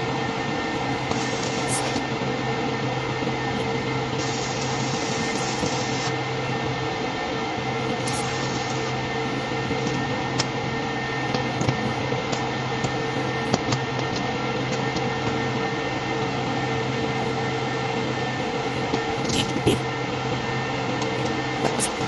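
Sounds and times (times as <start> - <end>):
arc welder humming: 0.0 - 11.4, 12.1 - 22.0.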